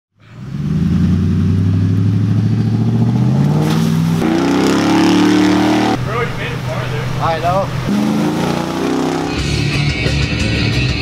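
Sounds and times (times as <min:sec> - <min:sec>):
truck engine revving: 0:00.2 - 0:11.0.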